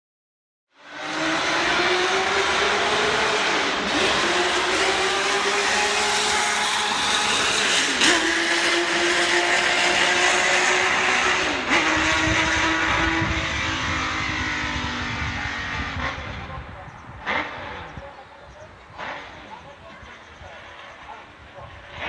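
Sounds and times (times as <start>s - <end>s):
racing car engine at high revs: 0.7s - 22.0s.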